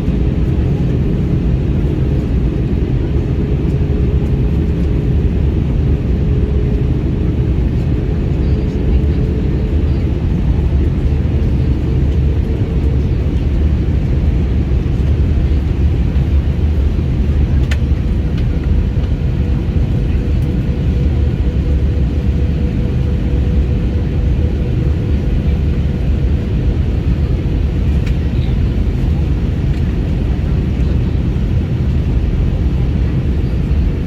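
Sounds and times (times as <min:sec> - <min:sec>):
jet engine and airflow rumble: 0:00.0 - 0:34.0.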